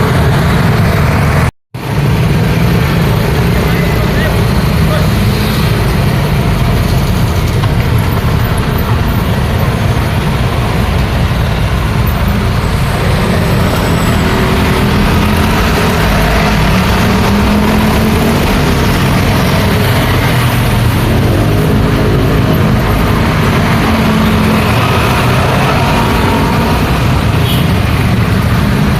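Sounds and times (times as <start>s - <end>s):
busy road traffic: 0.0s - 28.9s.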